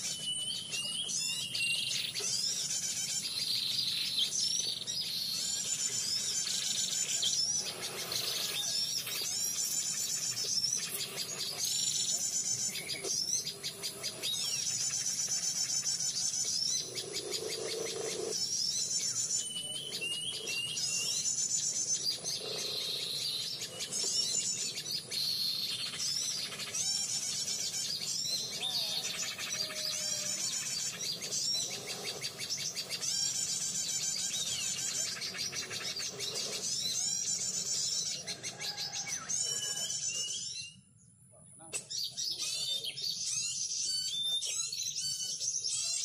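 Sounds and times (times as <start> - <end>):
high-pitched bird chattering: 0.0 - 40.7, 41.6 - 46.0
short sweeping bird calls: 0.0 - 40.7.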